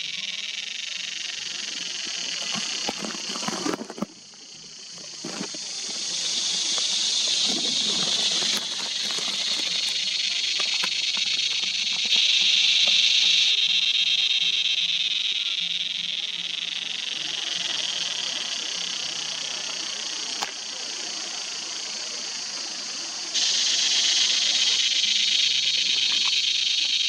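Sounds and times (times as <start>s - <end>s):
cicada buzzing: 0.0s - 27.0s.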